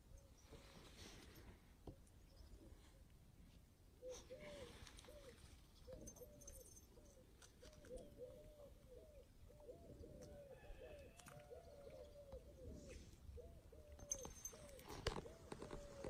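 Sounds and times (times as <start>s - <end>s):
birds calling faintly: 0.0s - 16.0s.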